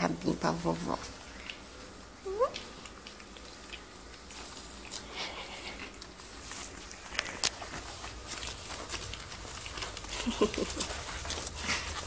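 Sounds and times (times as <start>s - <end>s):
puppy paws pattering: 0.0s - 12.0s.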